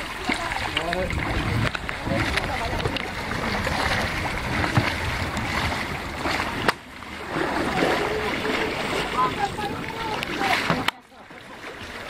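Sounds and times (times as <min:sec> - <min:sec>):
kayak paddles splashing in water: 0:00.0 - 0:12.0
rushing water: 0:00.0 - 0:12.0.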